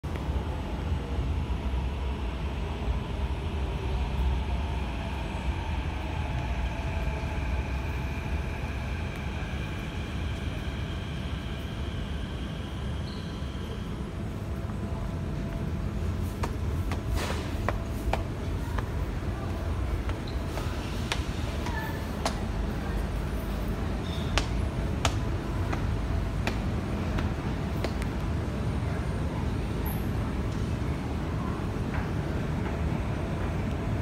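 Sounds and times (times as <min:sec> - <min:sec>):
metro train rumble and motor whine: 0:00.0 - 0:34.0.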